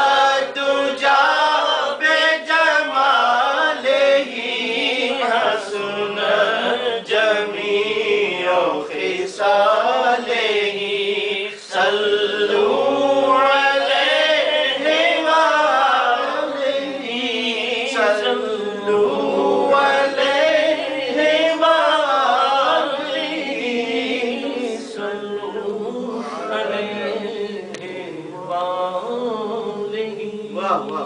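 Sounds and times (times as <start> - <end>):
man chanting devotional poem: 0.0 - 31.0.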